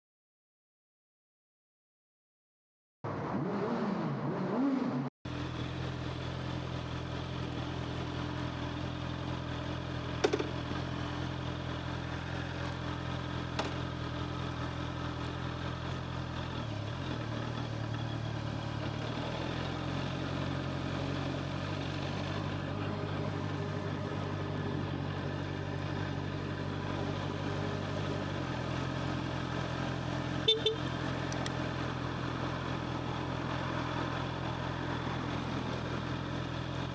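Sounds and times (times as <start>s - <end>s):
motorcycle engine idling: 5.3s - 18.9s, 19.6s - 36.9s.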